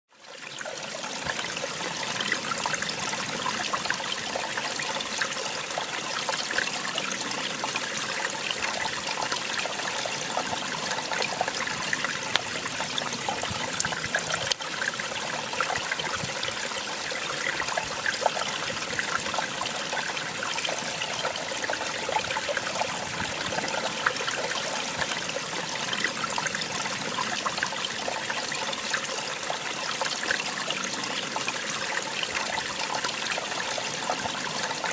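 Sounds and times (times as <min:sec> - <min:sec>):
small waterfall splashing: 0:00.2 - 0:34.9.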